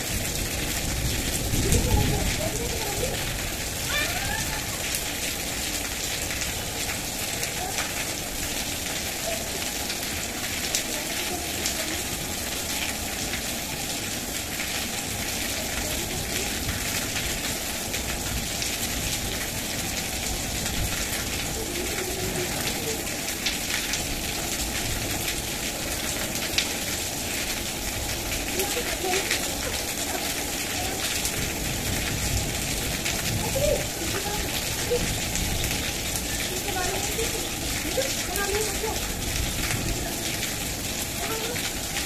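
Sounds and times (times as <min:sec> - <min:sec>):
heavy rain falling: 0:00.0 - 0:42.0
raindrops ticking close by: 0:00.0 - 0:42.0.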